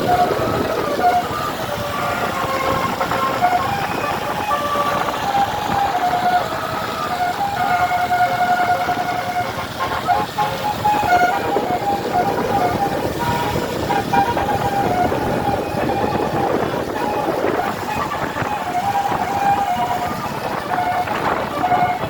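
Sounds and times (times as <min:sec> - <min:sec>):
moving bus noise: 0:00.0 - 0:22.0
multi-tone bus horn playing tune: 0:00.0 - 0:22.0.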